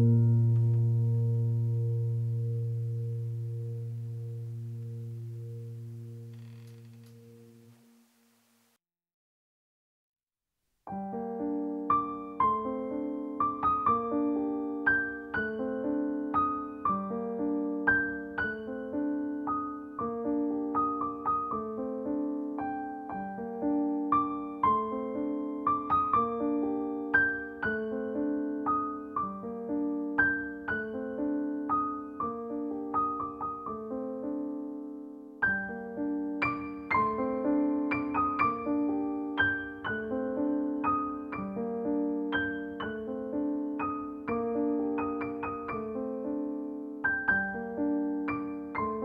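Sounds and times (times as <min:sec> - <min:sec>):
calm piano music: 0:00.0 - 0:08.1, 0:10.9 - 0:49.0.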